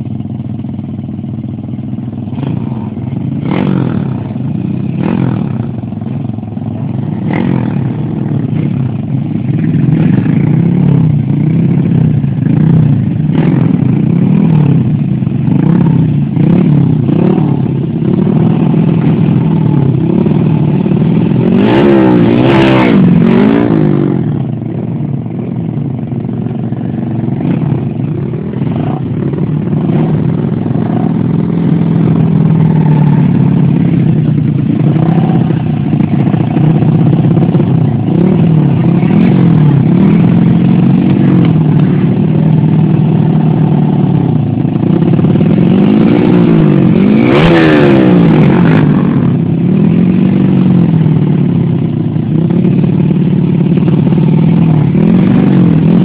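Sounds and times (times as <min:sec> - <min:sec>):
small motorcycle engines revving: 0:00.0 - 0:56.0.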